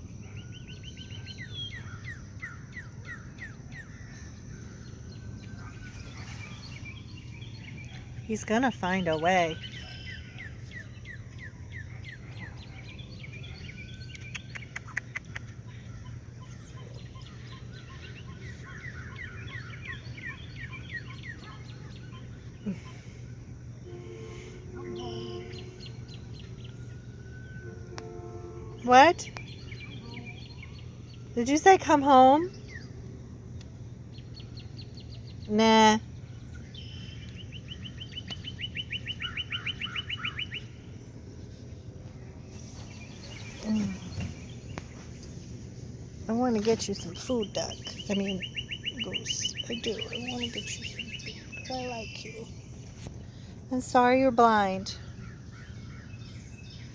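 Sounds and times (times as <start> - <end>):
songbird trill: 0.0 - 56.9
steady low hum: 0.0 - 56.9
bird chirping: 0.1 - 41.8, 42.4 - 56.9.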